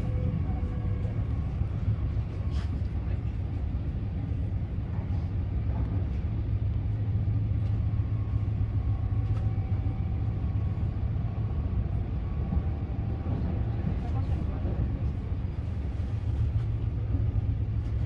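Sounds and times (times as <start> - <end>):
train interior rumble: 0.0 - 18.0.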